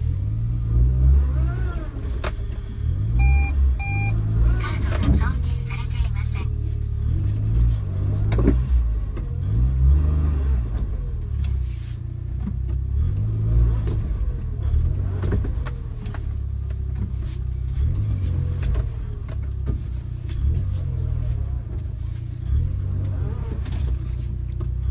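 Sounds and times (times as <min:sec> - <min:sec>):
car engine driving slowly: 0:00.0 - 0:24.9.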